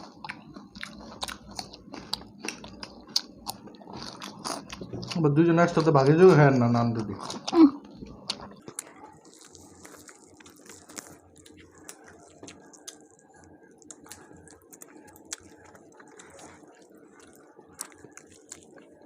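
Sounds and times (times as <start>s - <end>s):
people chewing food: 0.0s - 19.0s.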